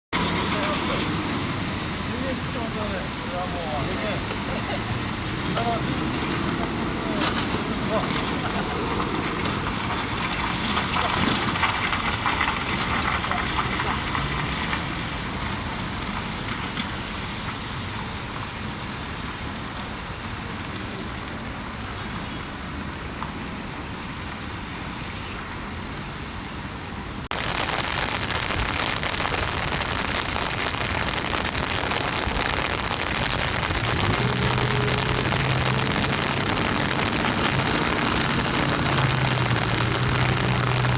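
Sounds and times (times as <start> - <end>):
road traffic: 0.1 - 40.9.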